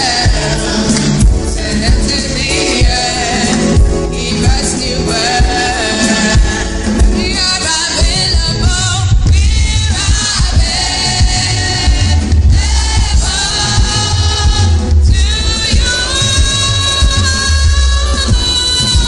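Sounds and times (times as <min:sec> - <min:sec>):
choir singing: 0:00.0 - 0:08.3, 0:09.8 - 0:17.7
music with heavy bass: 0:00.0 - 0:19.0.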